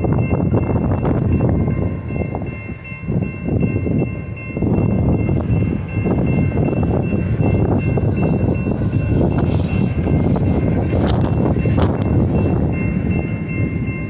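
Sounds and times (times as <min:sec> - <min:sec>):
freight train rolling on rails: 0:00.0 - 0:14.0.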